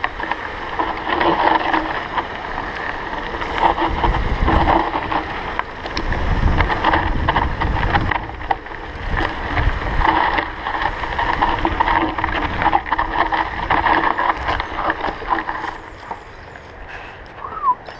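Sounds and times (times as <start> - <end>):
bike clicks and rattles: 0.0 - 17.9
wind and tyre noise: 0.0 - 17.9.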